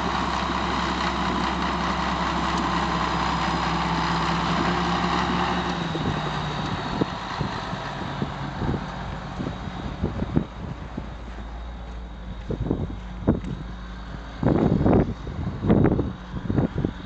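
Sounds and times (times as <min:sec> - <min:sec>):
diesel engines idling: 0:00.0 - 0:17.0.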